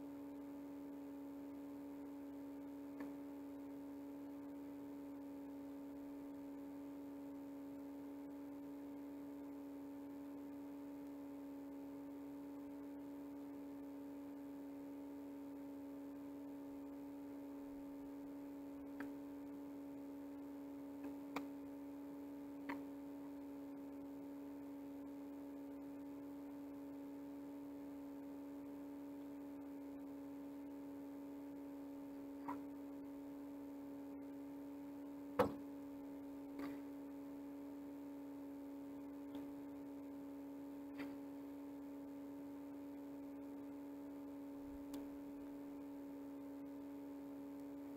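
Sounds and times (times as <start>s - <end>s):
steady electrical hum: 0.0s - 47.9s.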